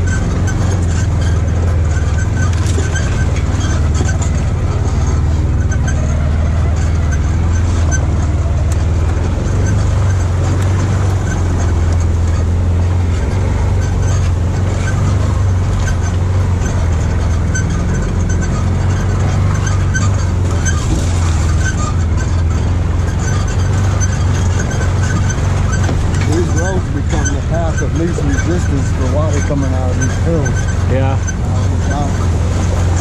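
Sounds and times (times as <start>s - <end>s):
knocks and rattles of bouncing vehicle: 0.0s - 33.0s
utility vehicle engine droning: 0.0s - 33.0s.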